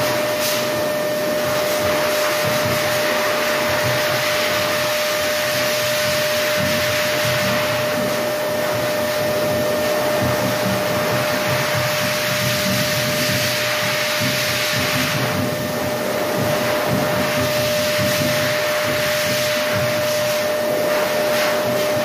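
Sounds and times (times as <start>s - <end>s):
electric blower running: 0.0s - 22.0s.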